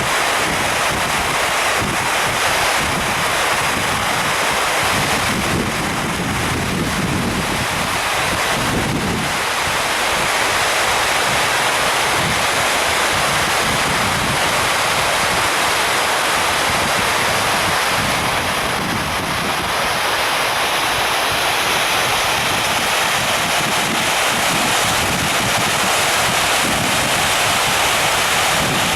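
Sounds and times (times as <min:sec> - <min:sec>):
wind buffeting microphone: 0:00.0 - 0:20.2, 0:20.8 - 0:28.9
water fountain splashing: 0:00.0 - 0:28.9.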